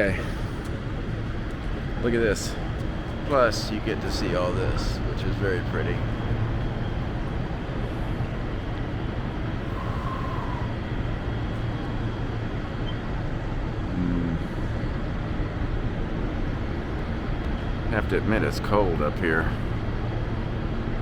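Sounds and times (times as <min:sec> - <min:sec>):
tram car rumbling: 0:00.0 - 0:21.0.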